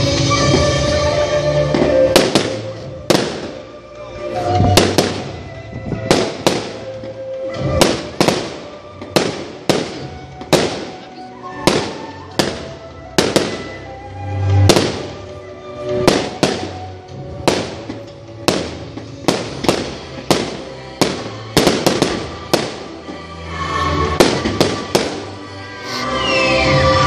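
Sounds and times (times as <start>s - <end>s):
music: 0.0s - 27.0s.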